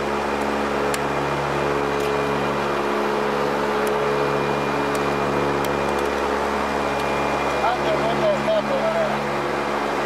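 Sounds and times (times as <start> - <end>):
turboprop engines droning: 0.0 - 10.0.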